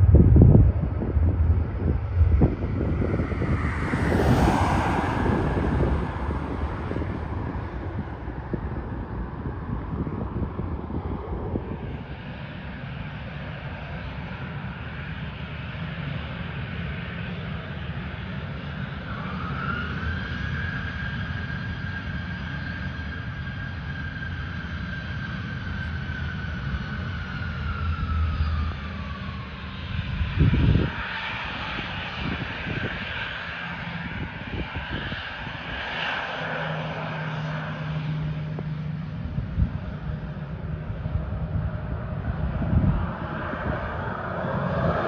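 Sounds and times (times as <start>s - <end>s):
wind buffeting microphone: 0.0s - 17.4s, 21.2s - 45.0s
high engine whine: 0.0s - 45.0s
jet engines running: 0.0s - 45.0s.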